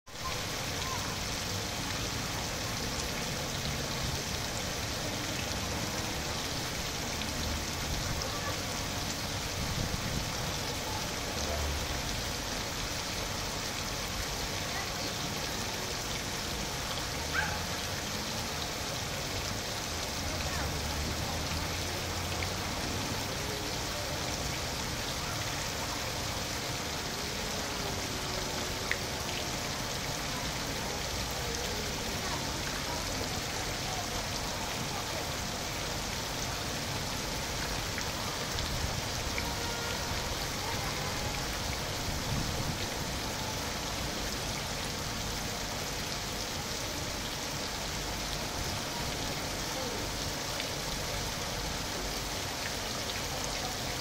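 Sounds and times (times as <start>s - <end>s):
fountain splashing into water: 0.1s - 54.0s.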